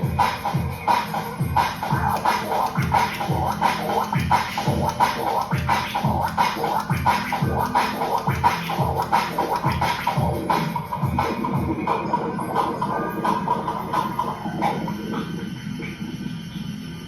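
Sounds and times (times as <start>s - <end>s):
record scratching: 0.0s - 16.3s
drum and bass music: 0.0s - 17.0s.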